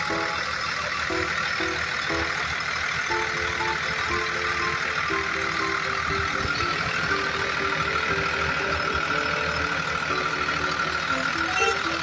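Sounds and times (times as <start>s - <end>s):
heavy vehicle engine: 0.0s - 12.0s
simple tune of short notes: 0.0s - 12.0s.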